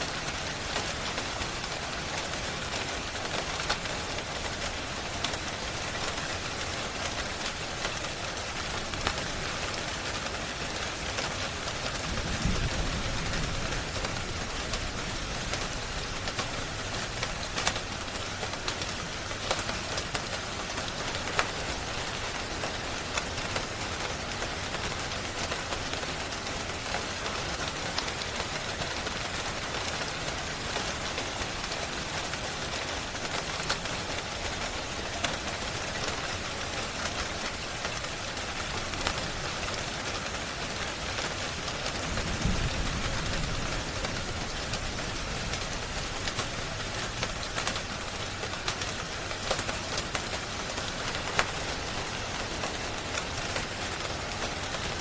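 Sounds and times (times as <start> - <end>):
rain falling: 0.0 - 55.0
fire crackling: 0.1 - 28.8, 29.5 - 55.0.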